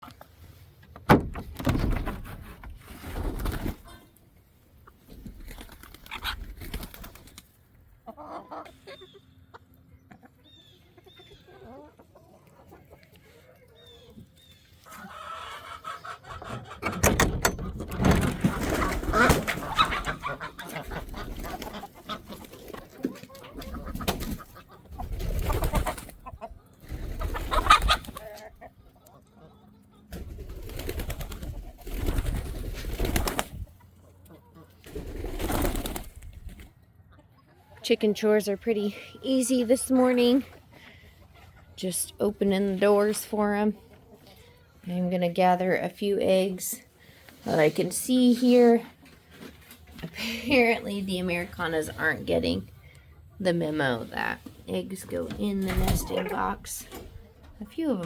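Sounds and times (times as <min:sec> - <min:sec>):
chickens clucking: 0:01.9 - 0:58.0.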